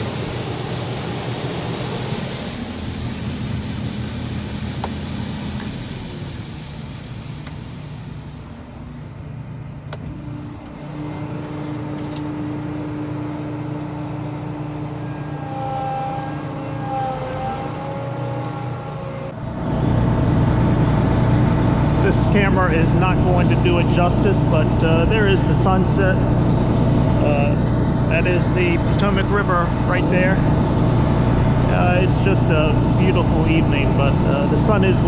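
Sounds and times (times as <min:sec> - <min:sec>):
farm vehicle engine running: 0:00.0 - 0:35.0.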